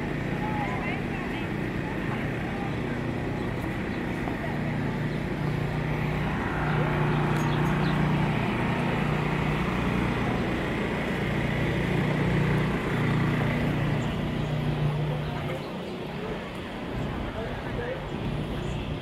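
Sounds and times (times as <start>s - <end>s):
engine running: 0.0s - 19.0s
street noise: 0.0s - 19.0s.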